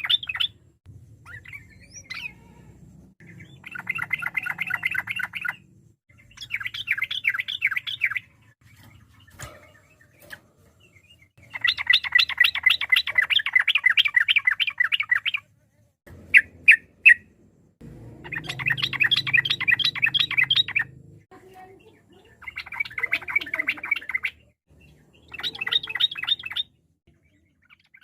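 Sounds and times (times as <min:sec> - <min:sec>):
bird singing chattering notes: 0:00.0 - 0:15.5, 0:16.2 - 0:28.0.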